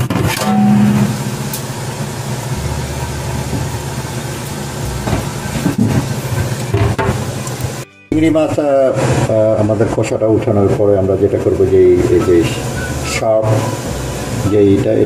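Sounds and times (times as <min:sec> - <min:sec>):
low mechanical hum: 0:00.0 - 0:07.8, 0:09.0 - 0:15.0.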